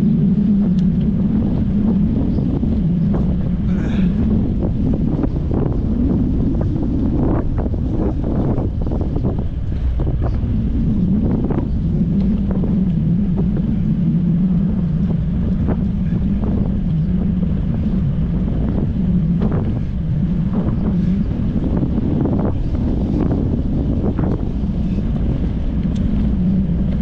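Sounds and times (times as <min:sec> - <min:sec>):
steady low hum: 0:00.0 - 0:27.0
wind buffeting microphone: 0:00.0 - 0:27.0.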